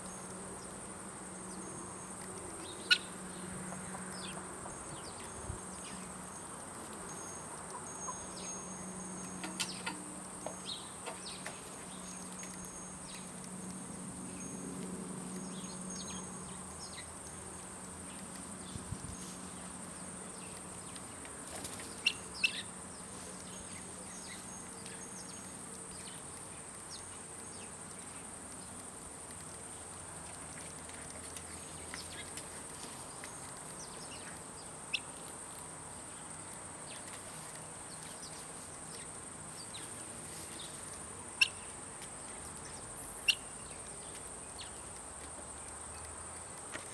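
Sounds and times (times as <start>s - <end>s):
insect chirps and clicks: 0.0s - 46.9s
insects droning: 0.0s - 46.9s.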